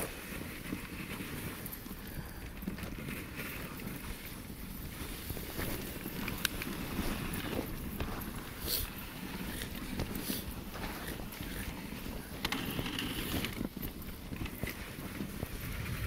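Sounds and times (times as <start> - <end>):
sled runners on snow: 0.0 - 16.0.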